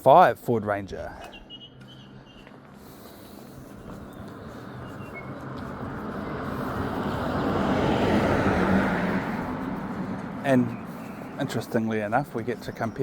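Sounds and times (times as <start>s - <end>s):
vehicle driving past: 1.6s - 13.0s.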